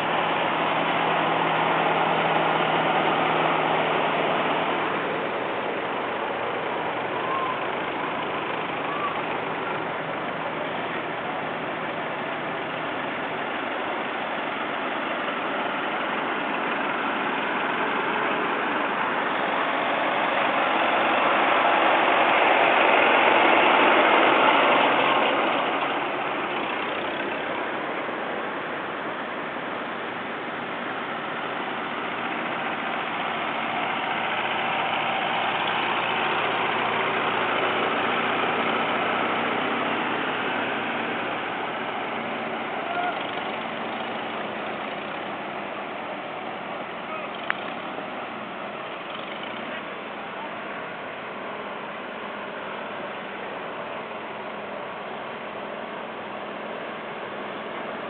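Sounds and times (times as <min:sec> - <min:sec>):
tractor engines passing: 0:00.0 - 0:58.0.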